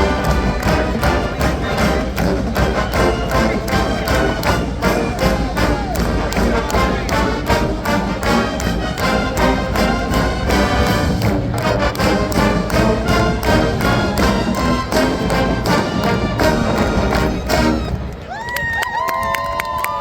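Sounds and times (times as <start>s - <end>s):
drumline beat: 0.0s - 18.1s
marching band brass: 0.0s - 18.3s.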